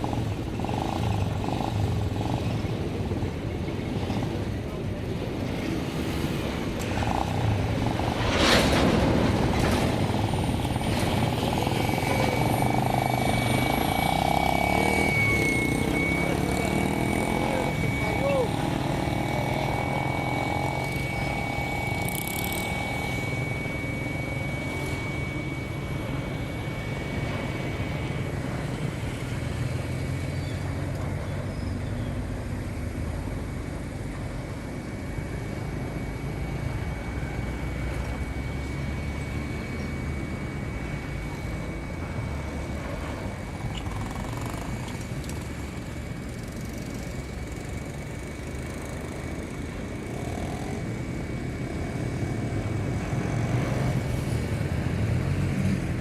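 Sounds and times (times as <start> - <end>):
diesel locomotive engine drone: 0.0 - 56.0
thin high whine: 5.0 - 56.0.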